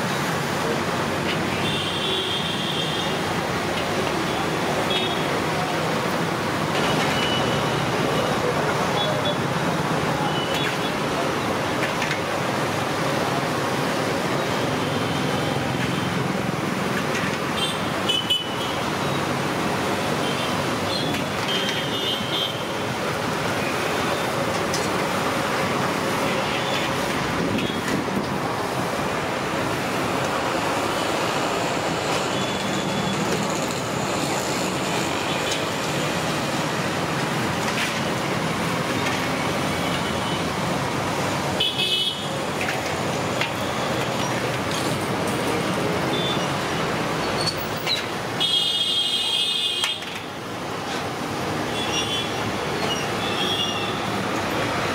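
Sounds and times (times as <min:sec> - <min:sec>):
street traffic: 0:00.0 - 0:54.9.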